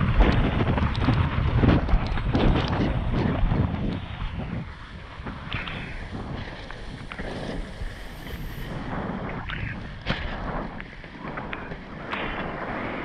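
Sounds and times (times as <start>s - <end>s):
water rushing under board: 0.0s - 13.0s
wind buffeting microphone: 0.0s - 13.0s.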